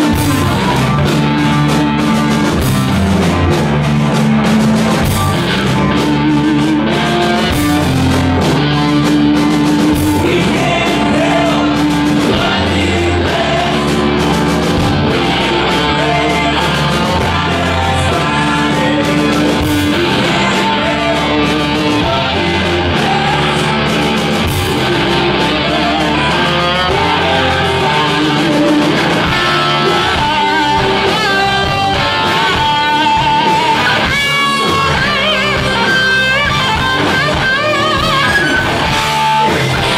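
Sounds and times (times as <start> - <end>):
heavy rock band playing live: 0.0 - 39.9
melodic guitar line: 0.0 - 39.9
person singing: 5.7 - 39.9.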